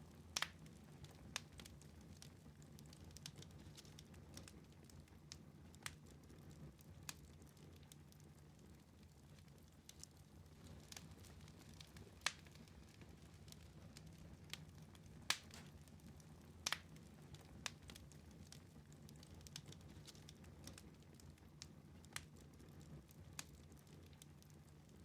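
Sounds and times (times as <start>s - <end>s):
fireplace crackling and popping: 0.0s - 25.0s.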